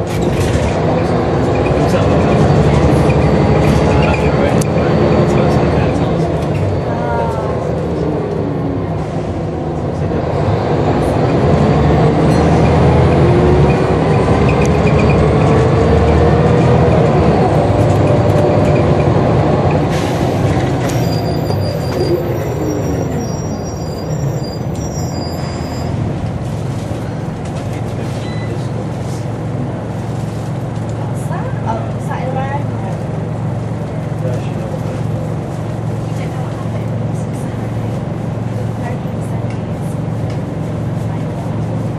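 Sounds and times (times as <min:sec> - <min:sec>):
bus engine pulling: 0:00.0 - 0:41.9.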